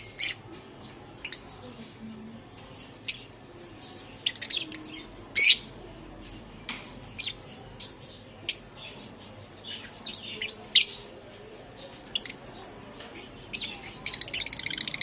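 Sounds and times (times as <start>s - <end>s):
lovebirds chirping and squawking: 0.0s - 11.2s, 11.8s - 15.0s.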